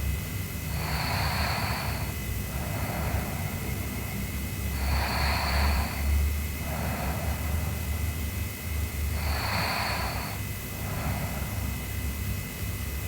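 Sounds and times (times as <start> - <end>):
girl snoring: 0.7 - 8.3, 9.0 - 11.9.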